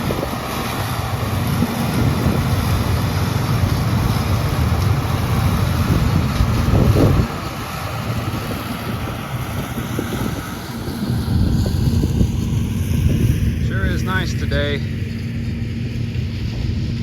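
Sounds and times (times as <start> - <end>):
combine harvester rumbling: 0.0 - 17.0
wind buffeting microphone: 0.0 - 17.0.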